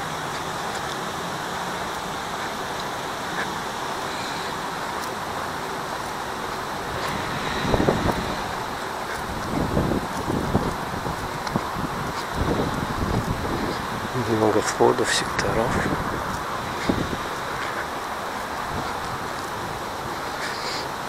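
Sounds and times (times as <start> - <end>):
steady outdoor noise: 0.0 - 21.0
wind buffeting microphone: 0.0 - 21.0.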